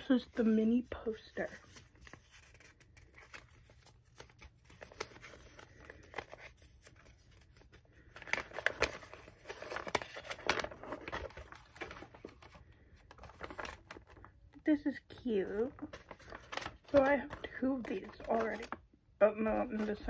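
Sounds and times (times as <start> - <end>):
paper crinkling and rustling: 0.0 - 20.0.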